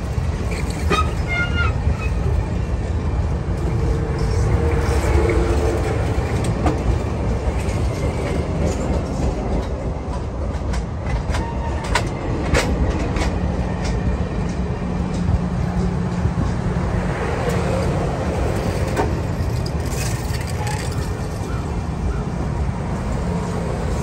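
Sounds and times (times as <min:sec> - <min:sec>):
train rumbling on rails: 0:00.0 - 0:24.0.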